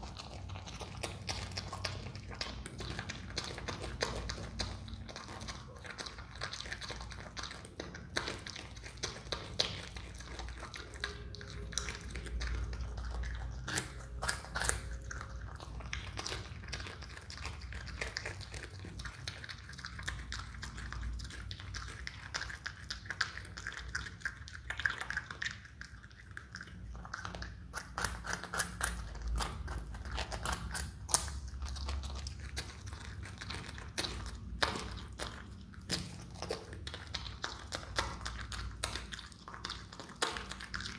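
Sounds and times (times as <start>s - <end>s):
animal chewing carrot crunches: 0.0s - 40.9s.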